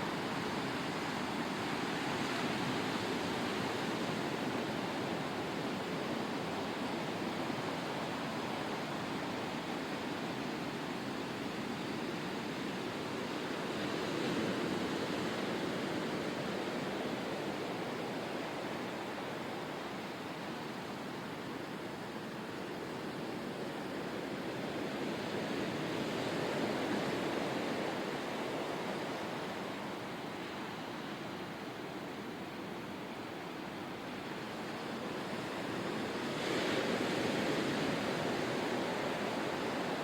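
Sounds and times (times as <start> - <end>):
ocean surf rushing water: 0.0 - 40.0.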